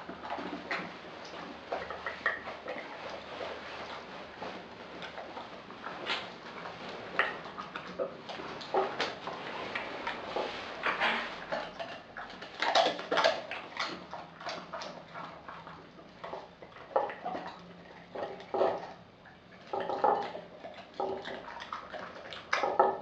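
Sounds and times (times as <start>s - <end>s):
dog chewing and smacking: 0.0s - 23.0s.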